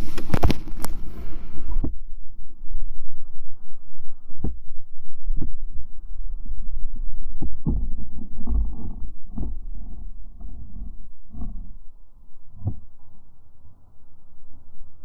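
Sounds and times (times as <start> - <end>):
underwater rumble of water: 0.0 - 15.0.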